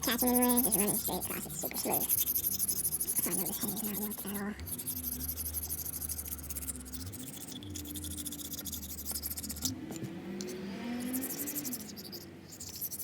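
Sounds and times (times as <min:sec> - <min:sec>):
razor blade scraping metal: 0:00.0 - 0:13.0.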